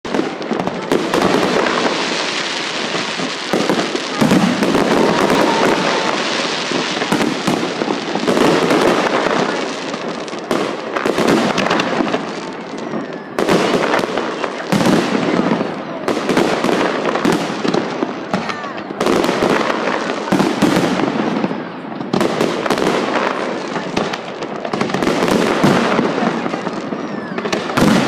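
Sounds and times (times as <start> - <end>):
fireworks bursting and crackling: 0.0 - 28.0
heavy firework bangs: 0.0 - 28.0.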